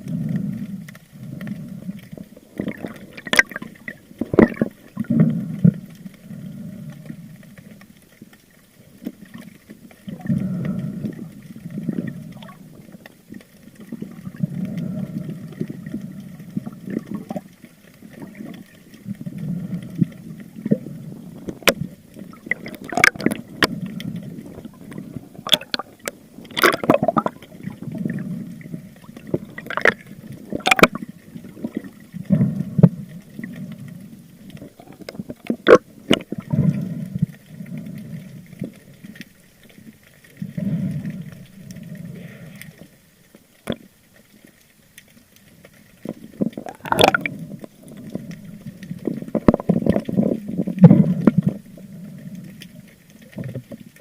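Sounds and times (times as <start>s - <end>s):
water gurgling and sloshing: 0.0s - 54.0s.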